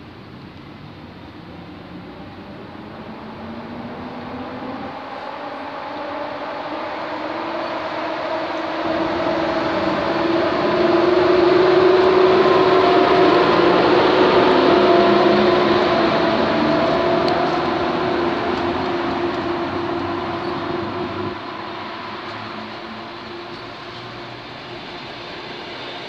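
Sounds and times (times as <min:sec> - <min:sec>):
locomotive droning hum: 0:00.0 - 0:26.0
train wheels rumbling on rails: 0:00.0 - 0:26.0.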